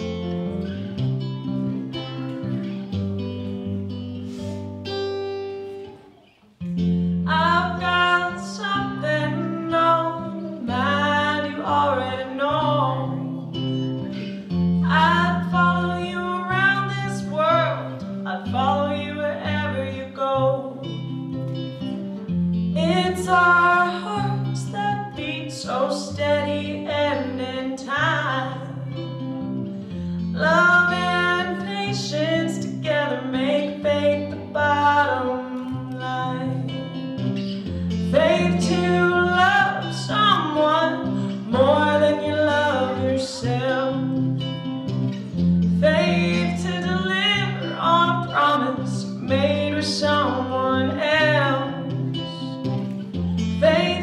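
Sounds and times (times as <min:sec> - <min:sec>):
acoustic guitars: 0:00.0 - 0:54.0
person singing slow song: 0:00.0 - 0:54.0.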